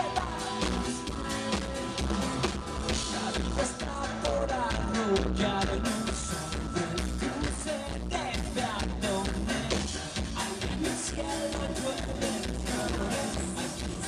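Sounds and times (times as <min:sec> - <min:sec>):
man singing into a microphone: 0:00.0 - 0:14.0
rock band playing: 0:00.0 - 0:14.0.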